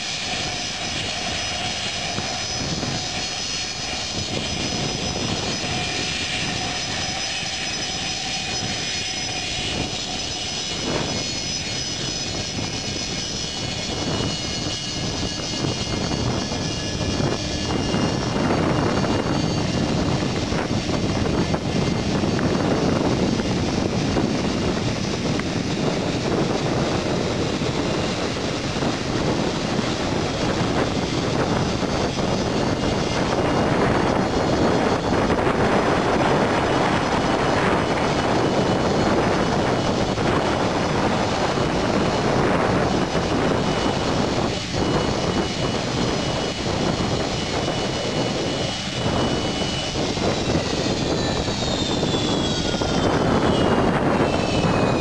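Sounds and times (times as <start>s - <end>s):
jet airliner taxiing rumble: 0.0s - 55.0s
thin high whine: 0.0s - 55.0s.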